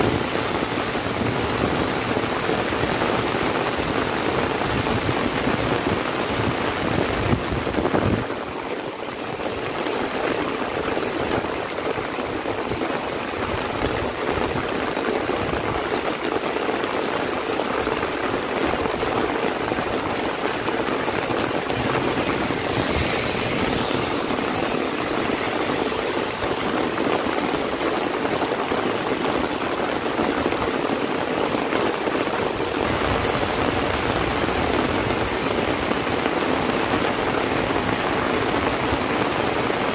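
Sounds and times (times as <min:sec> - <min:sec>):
heavy rain falling: 0:00.0 - 0:39.9
running rainwater: 0:00.0 - 0:39.9.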